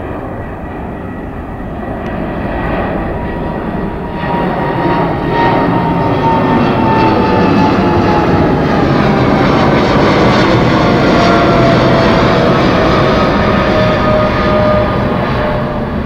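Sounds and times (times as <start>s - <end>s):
jet airliner roaring overhead: 0.0s - 16.0s.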